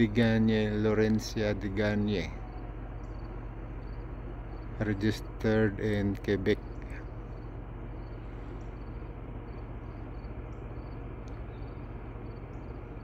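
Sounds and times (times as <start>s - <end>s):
crickets chirping: 0.0s - 13.0s
steady low hum: 0.0s - 13.0s.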